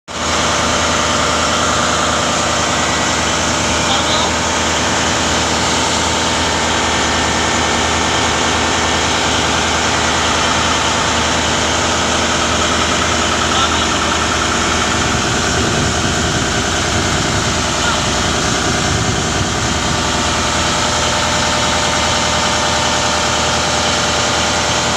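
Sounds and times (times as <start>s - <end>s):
turbocharged engine running: 0.1s - 24.9s.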